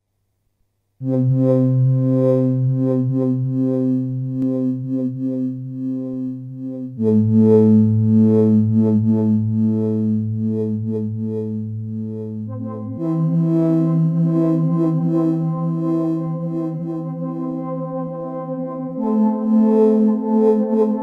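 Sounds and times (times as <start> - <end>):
low synthesizer drone chord: 1.0 - 21.0.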